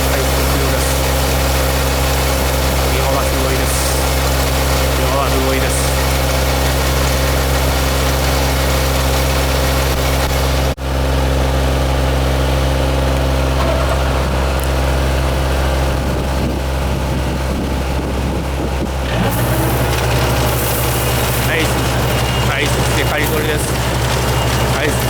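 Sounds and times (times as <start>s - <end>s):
farm machine engine running: 0.0s - 25.0s.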